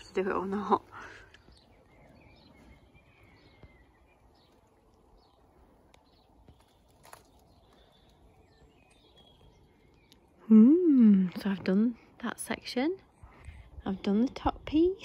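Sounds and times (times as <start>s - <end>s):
distant birds chirping: 0.0s - 15.0s.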